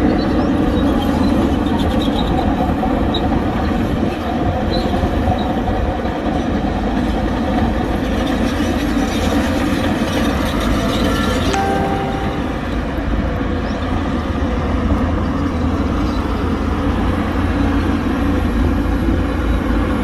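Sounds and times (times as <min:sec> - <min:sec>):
heavy diesel machinery rumbling: 0:00.0 - 0:20.0.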